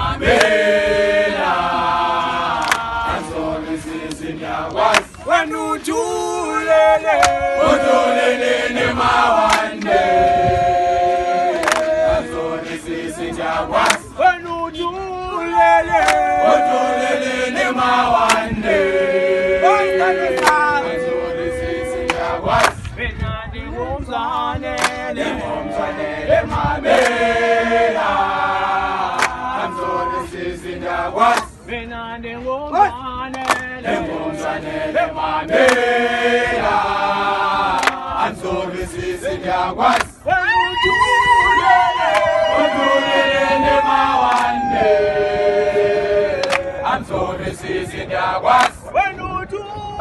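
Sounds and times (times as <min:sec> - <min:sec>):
young men singing unaccompanied: 0:00.0 - 0:50.0.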